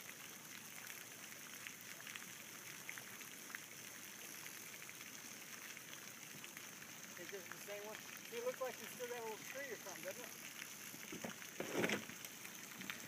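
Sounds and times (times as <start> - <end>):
light water drips: 0.0 - 13.0
water trickling: 0.0 - 13.0.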